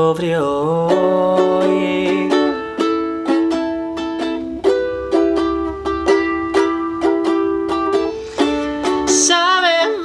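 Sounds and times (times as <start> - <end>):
plucked-string instrument strummed: 0.7 - 10.0.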